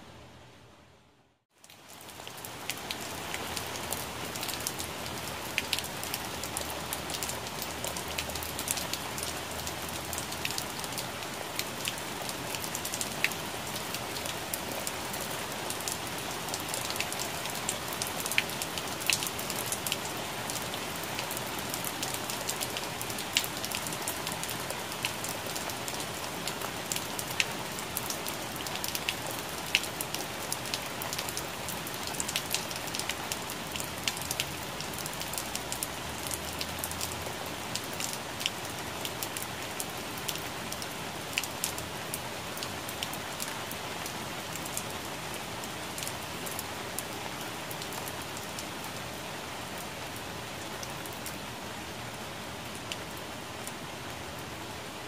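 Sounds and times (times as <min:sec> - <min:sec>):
rain pattering on leaves: 0:01.5 - 0:55.0.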